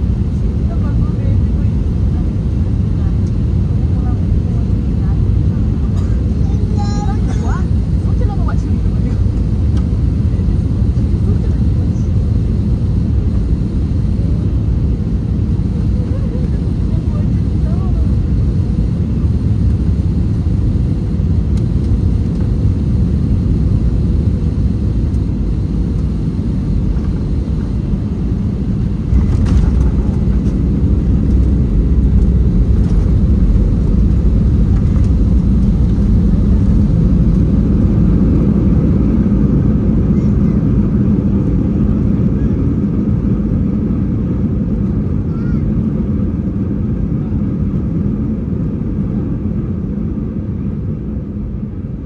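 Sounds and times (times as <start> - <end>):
aircraft cabin engine rumble: 0.0 - 52.0.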